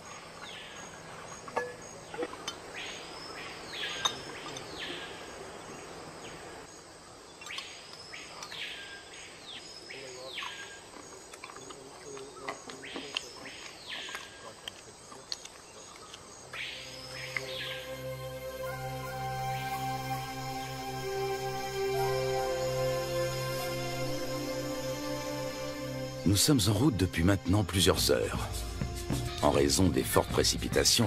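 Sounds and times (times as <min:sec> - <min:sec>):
birds and insects: 0:00.0 - 0:31.0
forest bird calling: 0:00.0 - 0:31.0.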